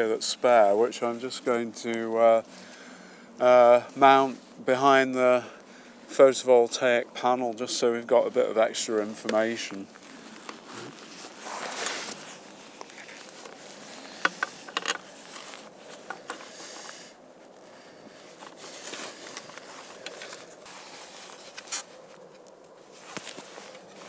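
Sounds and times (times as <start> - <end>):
waterproof jacket rustling: 0.0 - 24.0.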